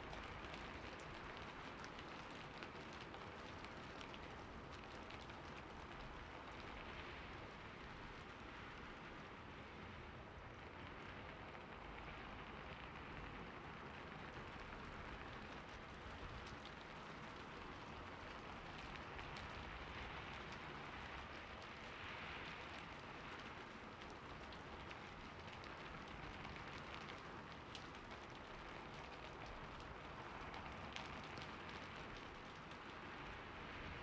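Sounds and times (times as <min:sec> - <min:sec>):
rain on a roof: 0:00.0 - 0:34.0.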